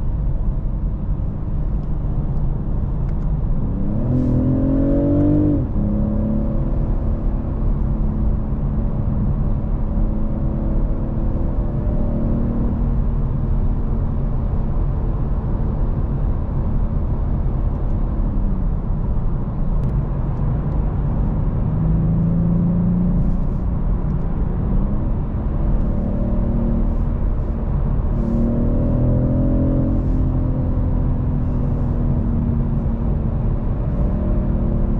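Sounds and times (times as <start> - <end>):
car engine cruising: 0.0 - 34.9
road and tyre rumble: 0.0 - 34.9.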